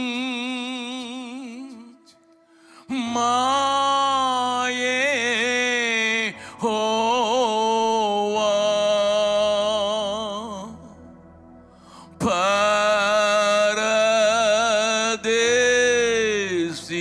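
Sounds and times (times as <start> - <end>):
man singing into a microphone: 0.0 - 2.2, 2.8 - 11.0, 12.0 - 17.0.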